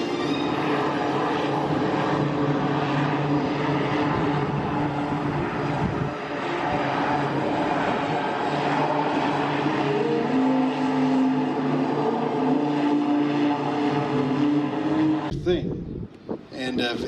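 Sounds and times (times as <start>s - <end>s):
aircraft engine running: 0.0s - 17.0s.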